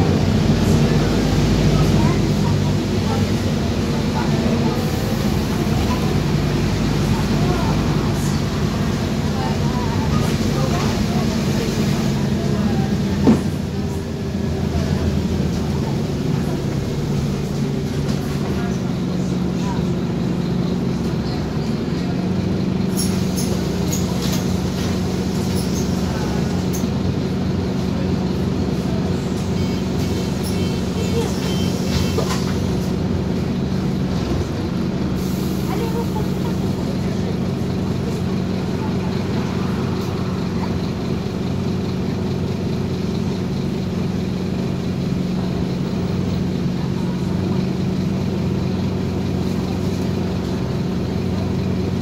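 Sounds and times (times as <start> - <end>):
bus diesel engine idling: 0.0 - 52.0.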